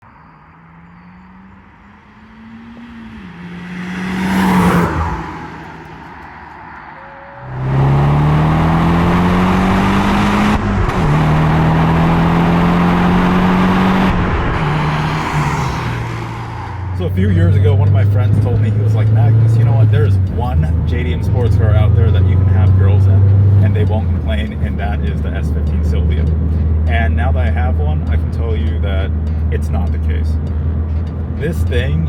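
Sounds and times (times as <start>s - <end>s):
car engine passing by: 0.4s - 29.5s
car engine accelerating hard: 0.5s - 32.0s.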